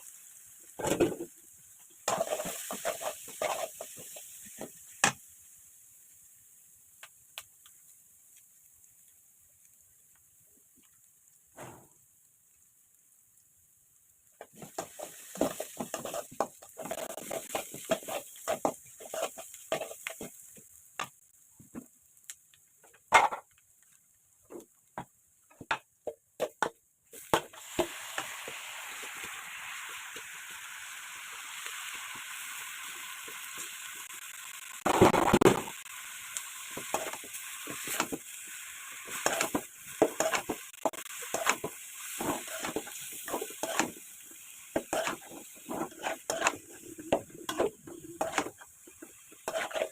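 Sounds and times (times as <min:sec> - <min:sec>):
food sizzling in hot oil: 0:00.0 - 0:11.5, 0:12.1 - 0:25.5, 0:26.4 - 0:49.9.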